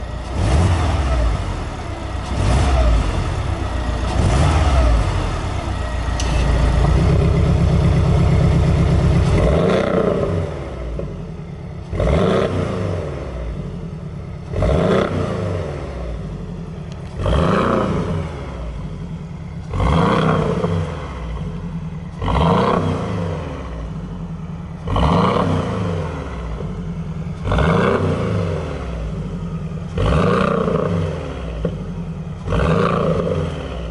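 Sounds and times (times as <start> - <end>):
sports car engine revving: 0.0 - 33.9.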